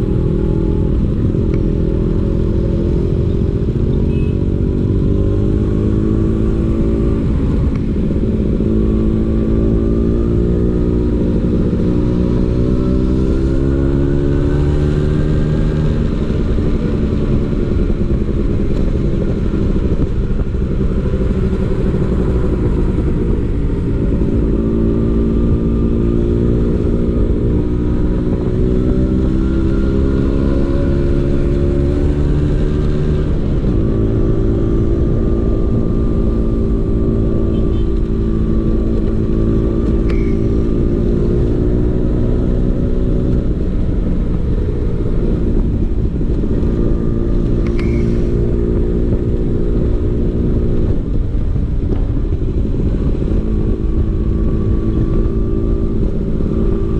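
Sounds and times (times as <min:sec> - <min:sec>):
scooter engine climbing in pitch: 0:00.0 - 0:56.9.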